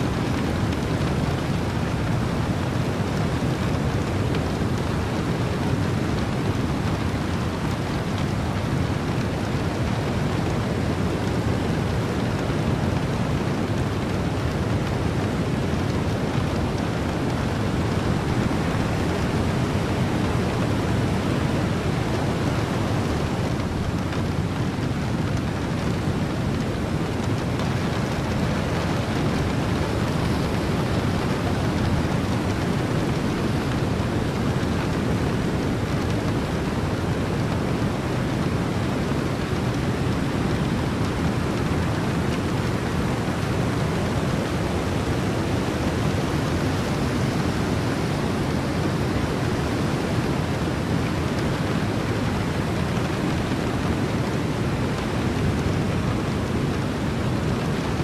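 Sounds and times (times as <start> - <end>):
heavy rain: 0.0 - 58.0
wind: 0.0 - 58.0.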